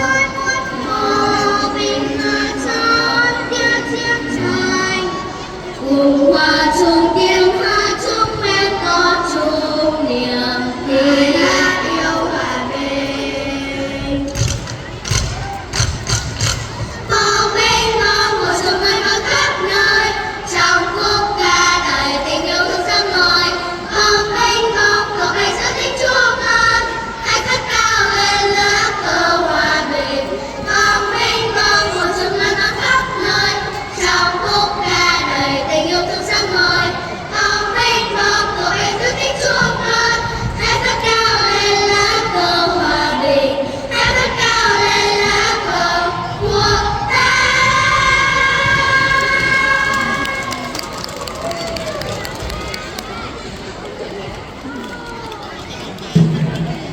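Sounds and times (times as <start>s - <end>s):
children's choir singing: 0.0s - 56.9s.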